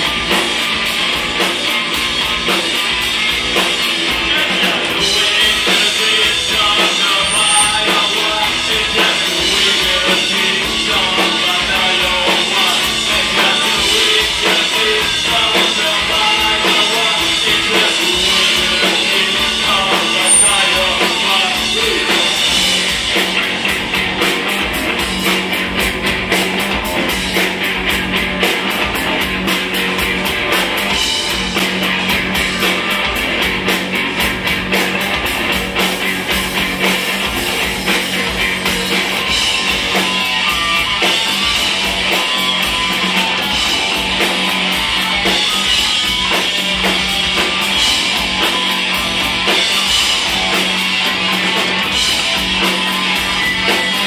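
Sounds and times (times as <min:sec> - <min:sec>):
bass guitar: 0:00.0 - 0:54.0
electric guitar: 0:00.0 - 0:54.0.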